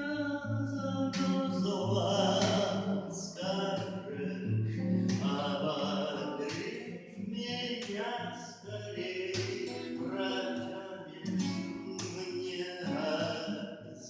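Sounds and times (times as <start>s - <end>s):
song with singing voices: 0.0s - 14.0s.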